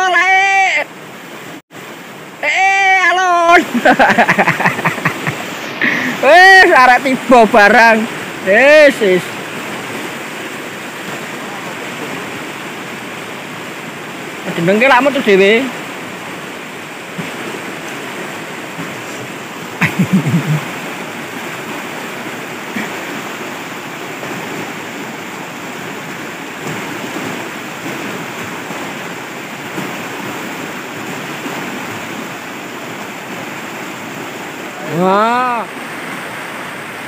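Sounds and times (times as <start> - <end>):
river rushing: 0.0 - 37.0.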